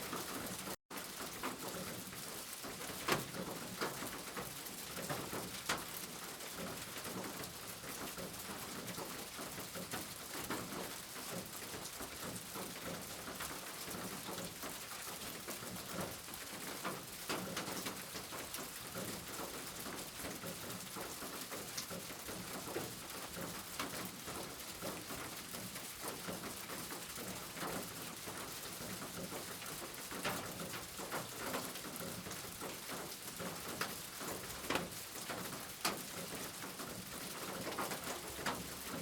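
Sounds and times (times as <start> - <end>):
rain falling: 0.0 - 39.0
raindrops striking close by: 0.0 - 39.0.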